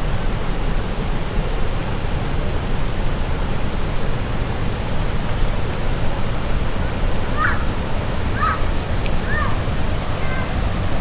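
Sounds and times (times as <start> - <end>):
water rapids roaring: 0.0 - 11.0.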